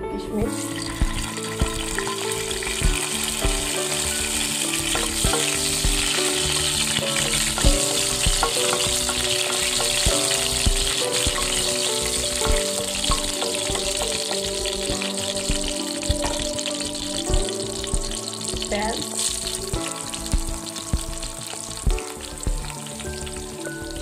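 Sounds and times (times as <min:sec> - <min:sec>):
hot oil sizzling: 0:00.4 - 0:24.0.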